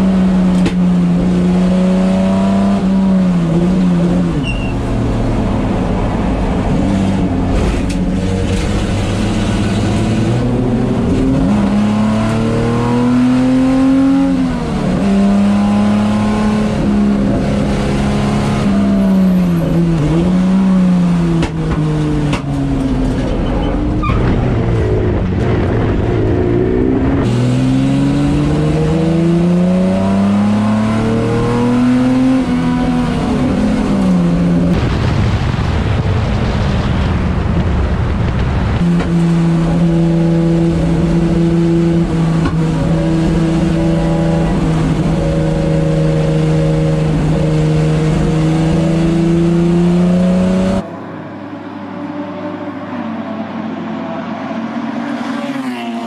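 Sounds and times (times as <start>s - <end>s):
racing car engine revving: 0.0s - 34.9s, 38.8s - 56.0s.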